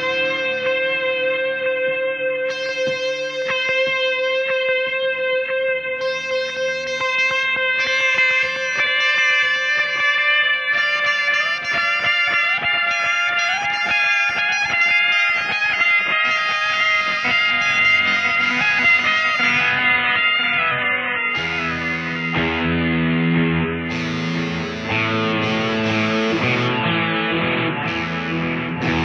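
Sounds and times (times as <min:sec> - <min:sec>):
guitar music: 0:00.0 - 0:29.0.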